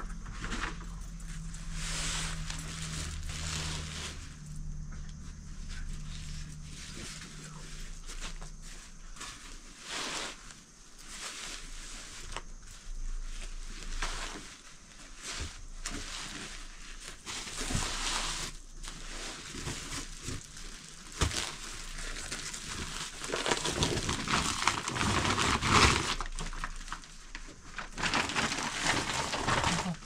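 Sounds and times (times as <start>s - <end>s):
plastic crinkling: 0.0s - 30.0s
cloth rustling: 0.4s - 4.7s, 5.6s - 30.0s.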